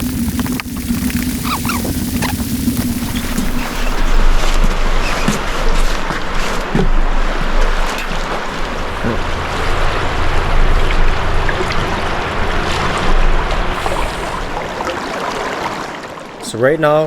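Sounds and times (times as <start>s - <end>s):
low hum: 0.0s - 16.8s
river water rushing: 2.7s - 17.0s.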